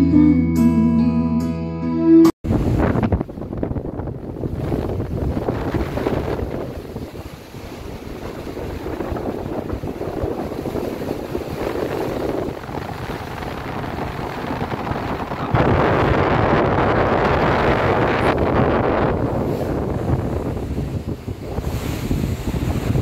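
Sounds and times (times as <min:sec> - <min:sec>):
strong wind buffeting microphone: 0:02.4 - 0:23.0
sea waves rushing: 0:02.5 - 0:23.0.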